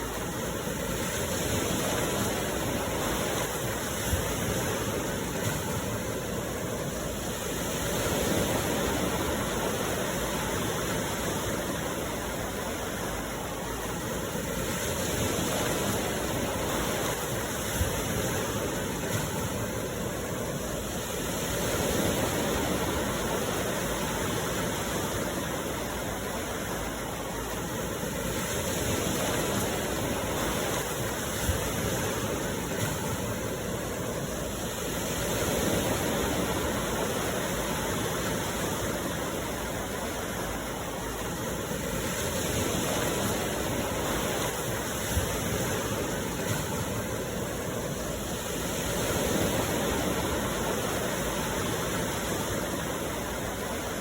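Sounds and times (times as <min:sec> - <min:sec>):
sea waves washing ashore: 0:00.0 - 0:54.0.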